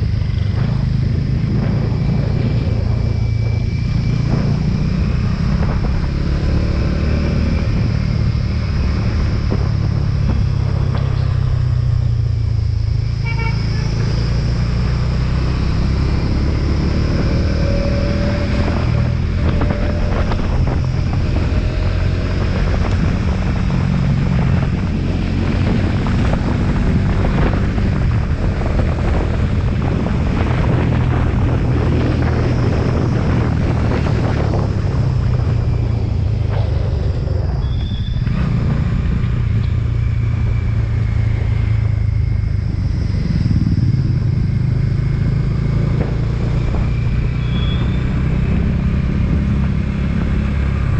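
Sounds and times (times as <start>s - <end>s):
motorcycle engine running: 0.0s - 50.9s
rushing noise: 0.0s - 50.9s.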